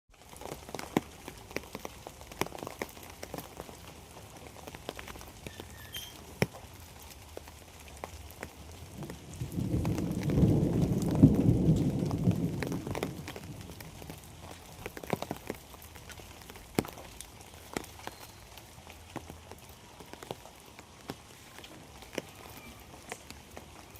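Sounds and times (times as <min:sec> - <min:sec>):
rain drops tapping: 0:00.1 - 0:23.9.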